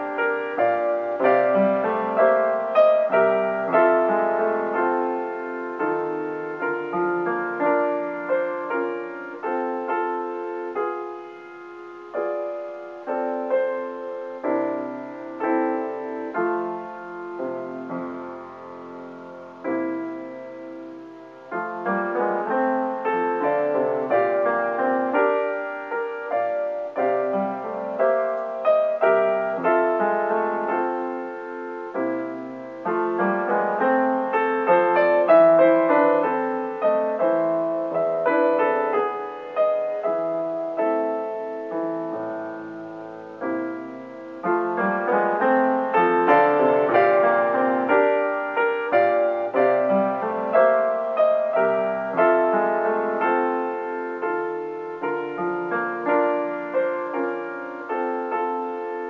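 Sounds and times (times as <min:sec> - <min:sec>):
solo piano music: 0:00.0 - 0:59.0.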